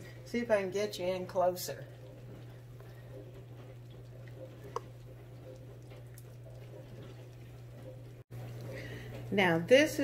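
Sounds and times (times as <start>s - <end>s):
cheese sauce bubbling and crackling: 0.0s - 9.3s
low room hum: 0.0s - 10.0s.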